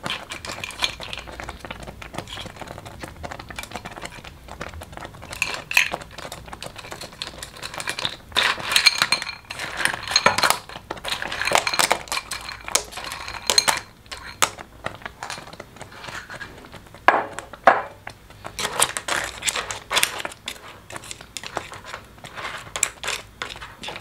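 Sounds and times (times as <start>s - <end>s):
porridge bubbling and popping: 0.0s - 24.0s.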